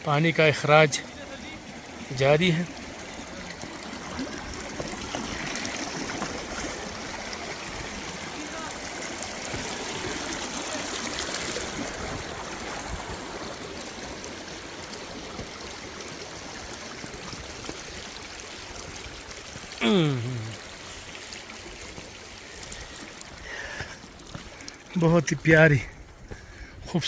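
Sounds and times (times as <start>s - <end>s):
water rushing from spillway: 0.0s - 26.1s.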